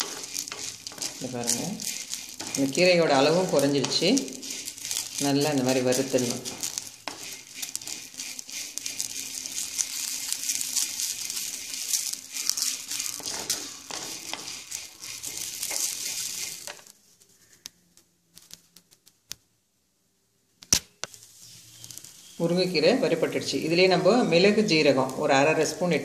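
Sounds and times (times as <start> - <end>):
food crackling in a clay pot: 0.0 - 19.3, 20.7 - 26.0.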